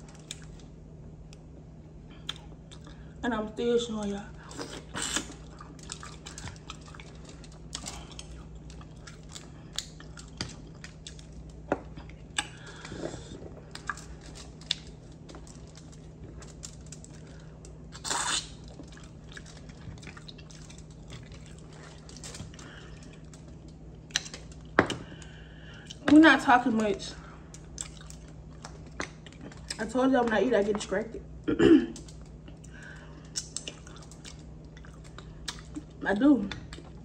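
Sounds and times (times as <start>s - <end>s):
chewing: 2.2s - 3.0s, 4.4s - 26.0s, 27.5s - 30.9s, 32.0s - 37.0s.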